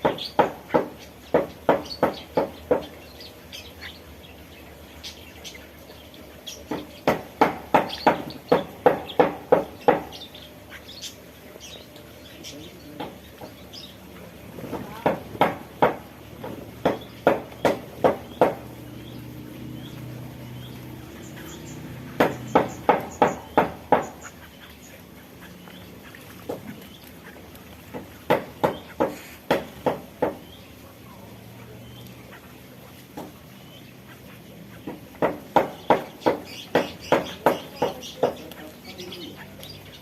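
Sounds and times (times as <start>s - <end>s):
harsh bird calls: 0.0s - 40.0s
small birds chirping: 0.0s - 40.0s.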